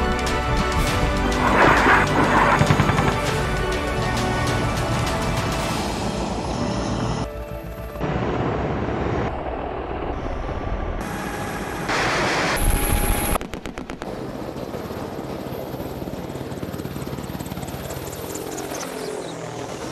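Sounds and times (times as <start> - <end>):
helicopter rotor and turbine noise: 0.0 - 19.9.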